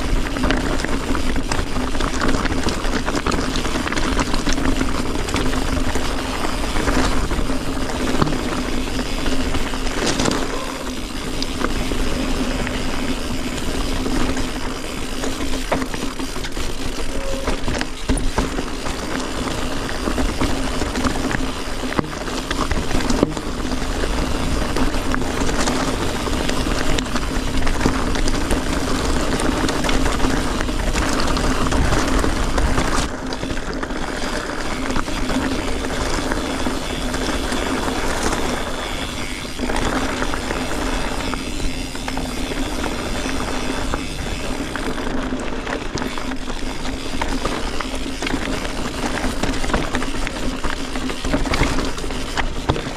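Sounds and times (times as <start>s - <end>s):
bike rattling and knocking: 0.0s - 52.9s
bike tyres on rocky ground: 0.0s - 52.9s
wind rumble on microphone: 0.0s - 52.9s.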